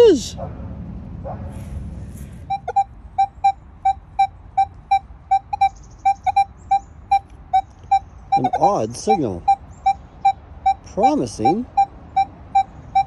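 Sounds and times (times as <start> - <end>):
metal detector beeps: 2.5 - 13.0.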